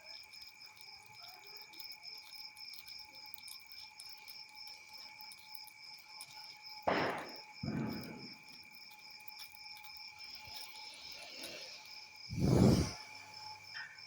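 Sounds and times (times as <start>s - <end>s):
crickets chirping: 0.0s - 14.0s
insect drones: 0.0s - 14.0s.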